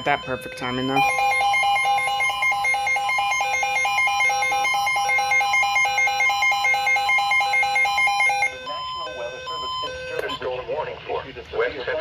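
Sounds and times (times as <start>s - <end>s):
high electronic alert tone: 0.0s - 10.4s
fast electronic beeping: 0.0s - 10.6s.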